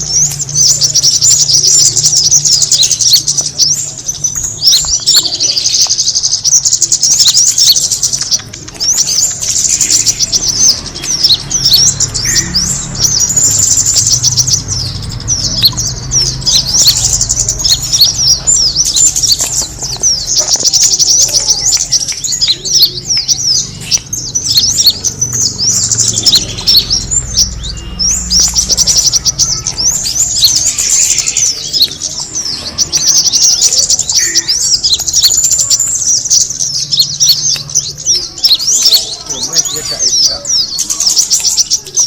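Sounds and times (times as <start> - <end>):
bird call chirps and trills: 0.0 - 42.0.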